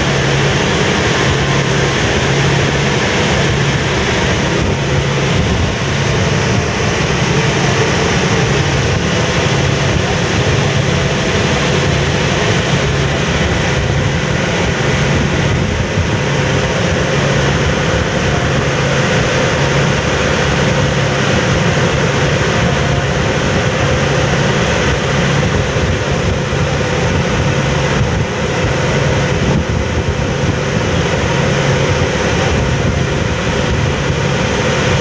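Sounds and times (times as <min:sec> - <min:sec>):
ferry engines humming: 0:00.0 - 0:35.0
propeller wash churning water: 0:00.0 - 0:35.0.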